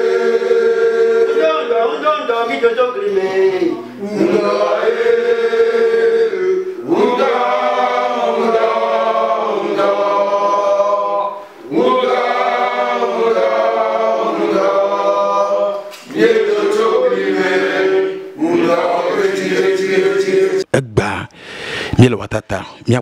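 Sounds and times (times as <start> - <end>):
men singing together: 0.0 - 2.0, 3.1 - 20.7.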